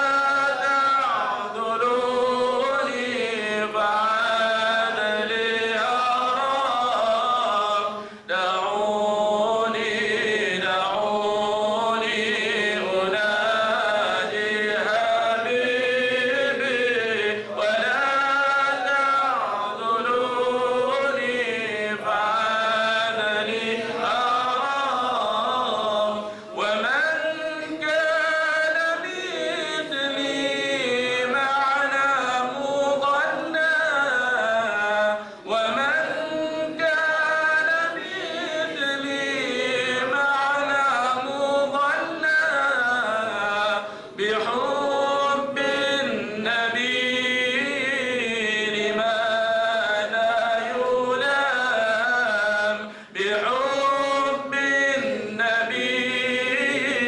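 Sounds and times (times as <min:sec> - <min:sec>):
man singing unaccompanied: 0:00.0 - 0:57.0.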